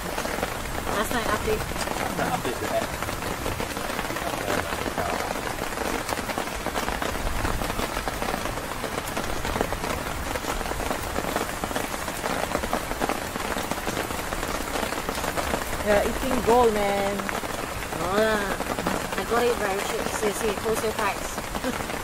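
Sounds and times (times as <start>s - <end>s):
rain pattering on tent fabric: 0.0s - 22.0s.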